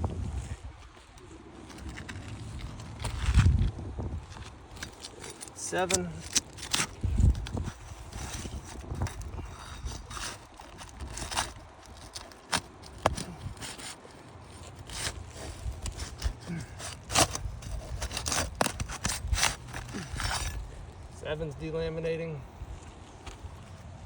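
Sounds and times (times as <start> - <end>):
shingles scraping and crackling: 0.4 - 21.7.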